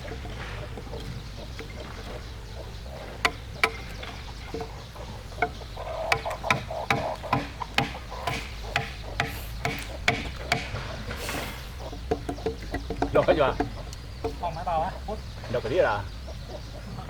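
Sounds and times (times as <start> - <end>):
tool knocking on wood: 0.0 - 14.7.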